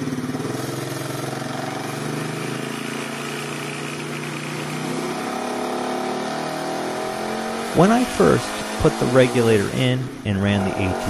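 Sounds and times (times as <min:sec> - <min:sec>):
atv engine idling: 0:00.0 - 0:06.2, 0:06.8 - 0:11.0.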